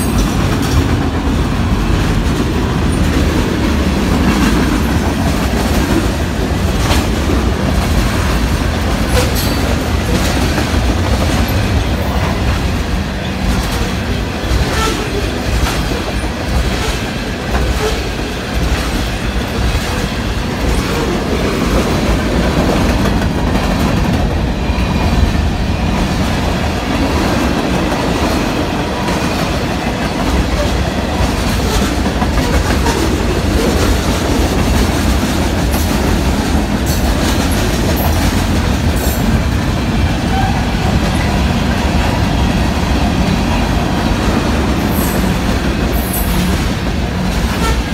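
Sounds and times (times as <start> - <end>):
freight train rumbling past: 0.0 - 47.9
wheels clacking over rail joints: 0.0 - 47.9.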